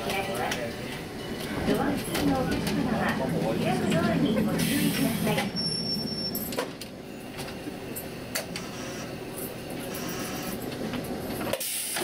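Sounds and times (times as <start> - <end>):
electric railcar running rumble: 0.0 - 12.0.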